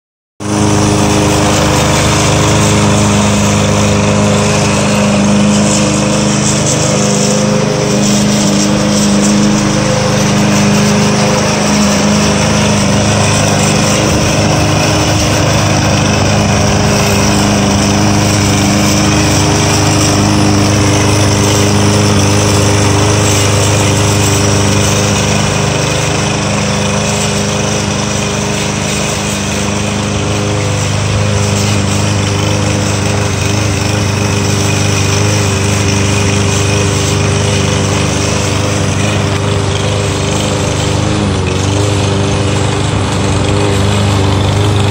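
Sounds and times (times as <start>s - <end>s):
push mower engine running: 0.4s - 44.9s.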